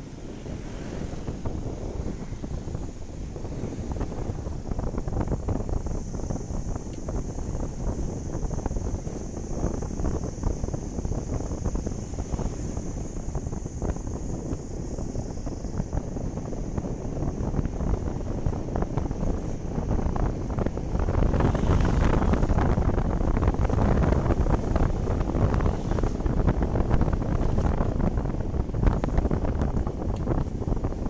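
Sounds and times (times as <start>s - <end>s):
low rumble: 0.0s - 31.0s
wind buffeting microphone: 0.0s - 31.0s.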